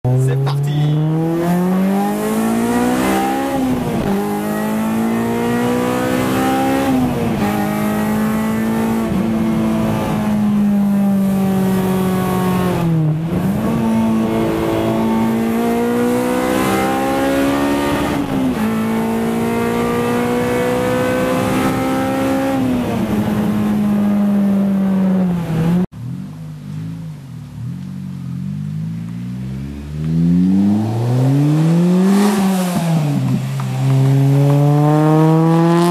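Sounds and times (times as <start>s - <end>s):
car engine accelerating through gears: 0.1s - 35.9s.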